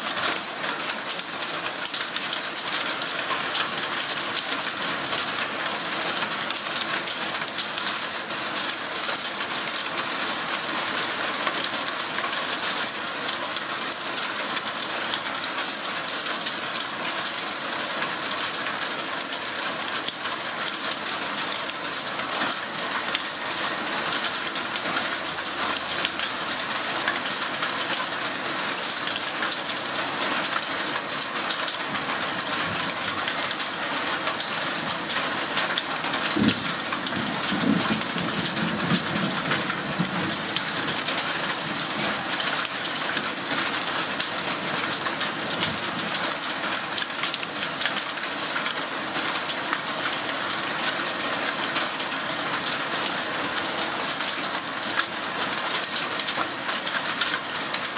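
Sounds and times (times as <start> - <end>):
heavy rain on foliage: 0.0 - 57.9.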